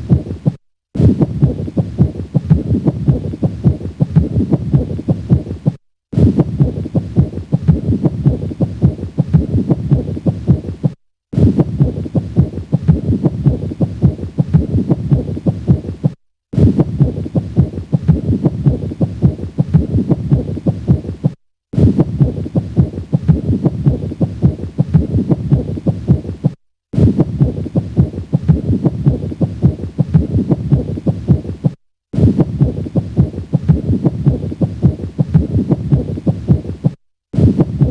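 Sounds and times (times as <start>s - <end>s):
heartbeat with scratchy rubbing: 0.0s - 37.9s.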